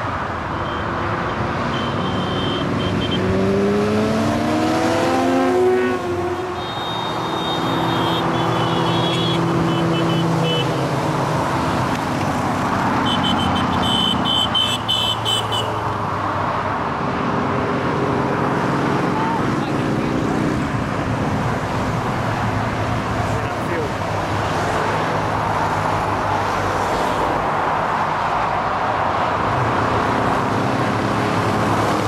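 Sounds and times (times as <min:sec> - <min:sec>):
motorcycle traffic passing: 0:00.0 - 0:32.0.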